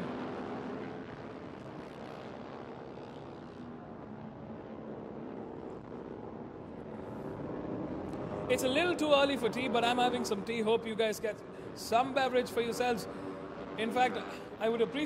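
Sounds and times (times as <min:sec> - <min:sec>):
distant motorcycle engines droning: 0:00.0 - 0:15.0.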